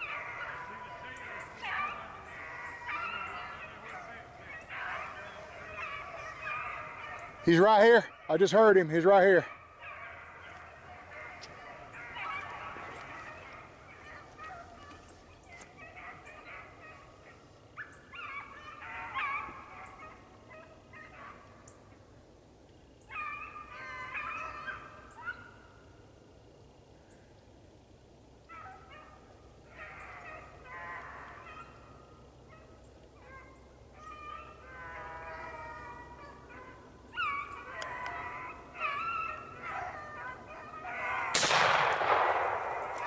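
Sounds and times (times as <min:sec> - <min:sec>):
beagles baying: 0:00.0 - 0:22.1, 0:23.0 - 0:25.9, 0:28.4 - 0:43.0.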